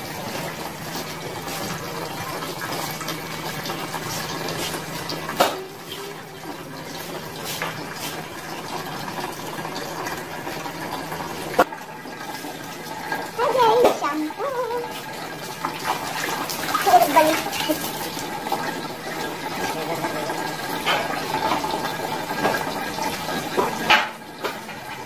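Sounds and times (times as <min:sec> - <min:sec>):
water running and splashing: 0:00.0 - 0:25.0.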